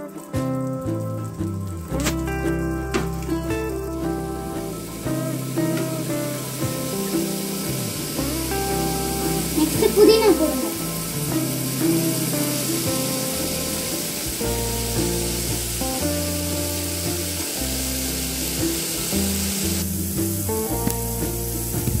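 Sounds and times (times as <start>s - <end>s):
background music with held notes: 0.0s - 22.0s
food sizzling in oil: 4.0s - 22.0s.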